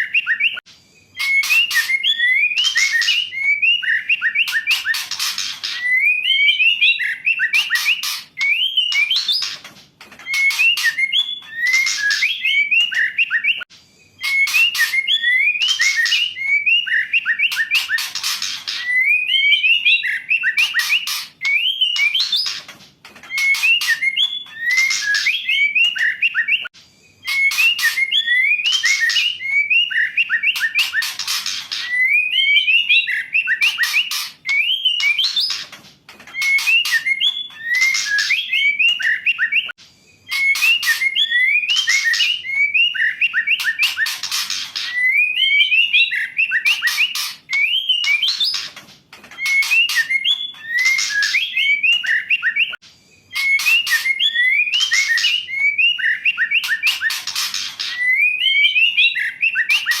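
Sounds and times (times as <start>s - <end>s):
bird whistling calls: 0.0s - 22.7s, 23.3s - 48.8s, 49.4s - 60.0s.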